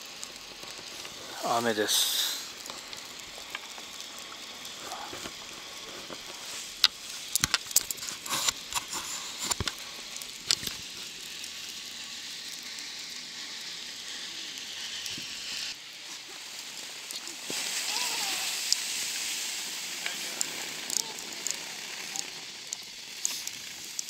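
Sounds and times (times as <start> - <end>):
rain hissing: 0.0 - 24.0.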